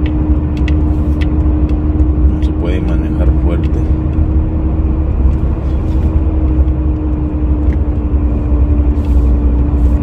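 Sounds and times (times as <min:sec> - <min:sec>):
steady hum: 0:00.0 - 0:10.0
truck rumble from inside cab: 0:00.0 - 0:10.0.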